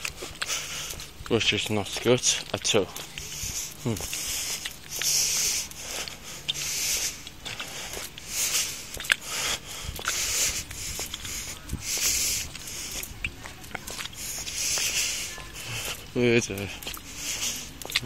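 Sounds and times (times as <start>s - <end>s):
person breathing: 0.0s - 1.1s, 3.0s - 13.2s, 13.8s - 18.0s.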